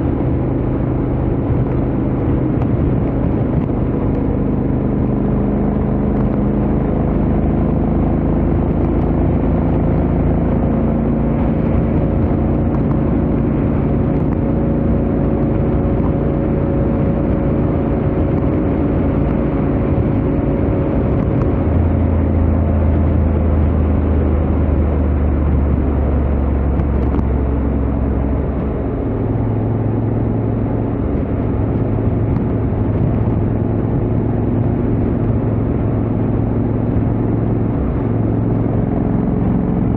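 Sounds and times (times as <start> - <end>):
motorcycle engine at highway speed: 0.0 - 39.9
wind and road noise: 0.0 - 39.9.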